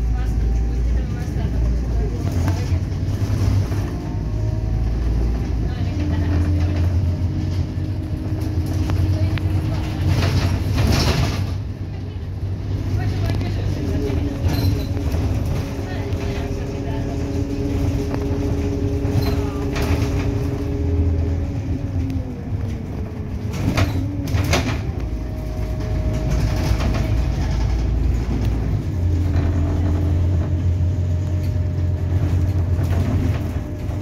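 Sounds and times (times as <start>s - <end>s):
bus engine drone: 0.0s - 34.0s.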